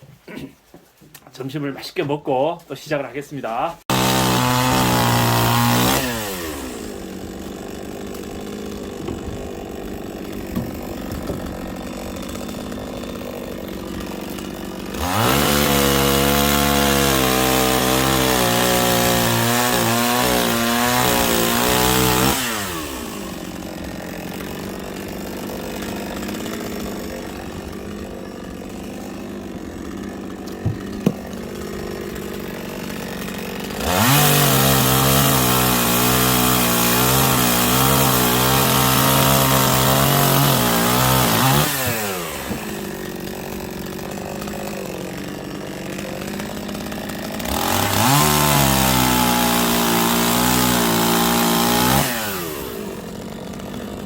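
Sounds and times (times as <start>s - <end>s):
chainsaw revving and idling: 3.4s - 54.0s.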